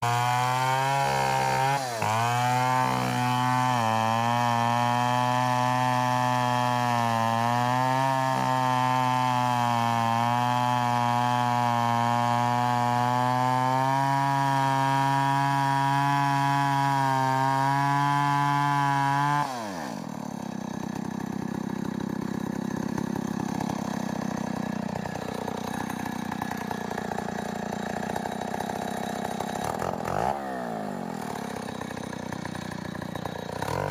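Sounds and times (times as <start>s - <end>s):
chainsaw cutting wood: 0.0s - 33.9s
chainsaw idling: 0.0s - 33.9s.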